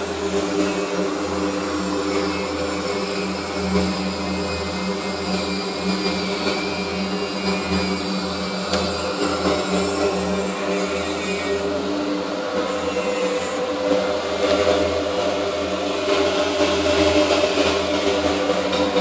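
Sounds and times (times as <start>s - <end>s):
hiss: 0.0s - 19.0s
machine humming: 0.0s - 19.0s.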